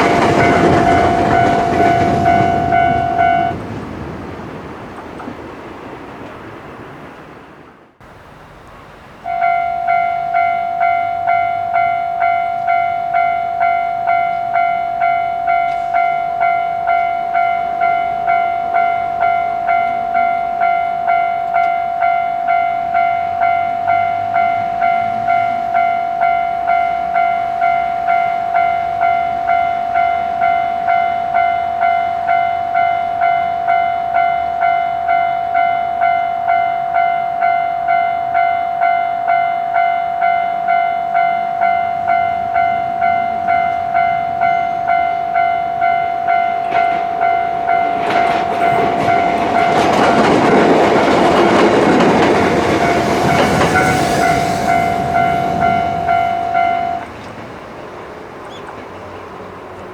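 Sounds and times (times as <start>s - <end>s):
level-crossing warning bell: 0.0s - 3.8s, 9.2s - 57.7s.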